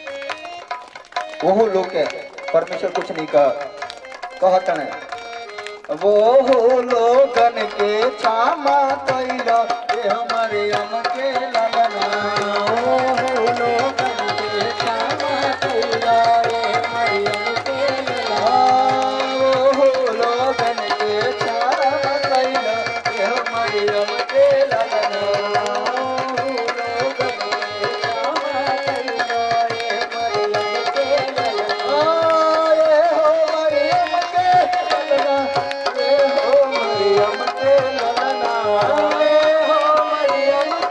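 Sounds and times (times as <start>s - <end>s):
hands clapping: 0.0s - 40.9s
keyboard melody: 0.0s - 40.9s
tabla drum rhythm: 0.0s - 40.9s.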